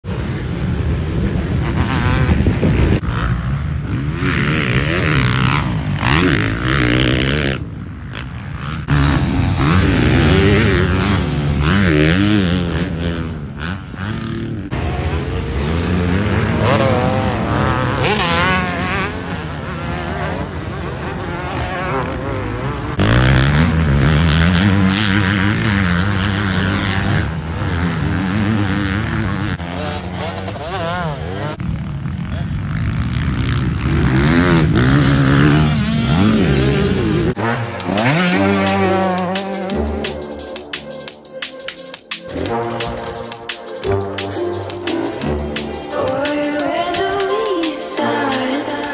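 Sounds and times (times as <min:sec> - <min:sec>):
motocross bike engines revving: 0:00.1 - 0:48.9.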